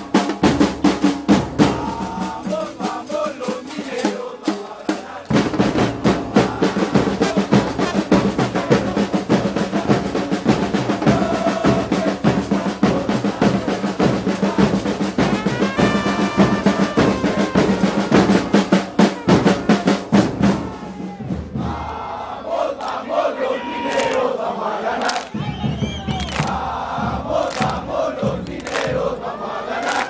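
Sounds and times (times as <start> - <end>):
marching snare and bass drums: 0.0 - 22.2, 25.0 - 30.0
crowd shouting: 1.6 - 30.0.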